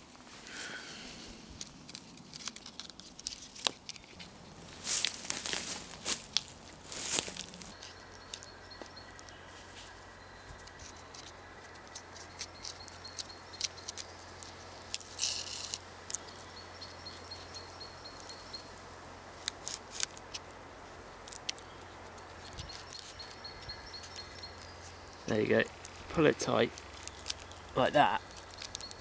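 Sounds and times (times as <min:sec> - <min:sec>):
cord rustling and scraping on bark: 0:00.0 - 0:29.0.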